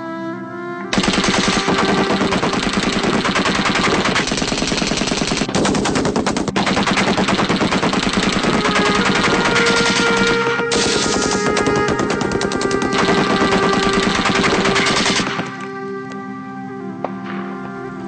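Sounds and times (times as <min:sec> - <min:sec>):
machine gun firing bursts: 0:01.0 - 0:15.7.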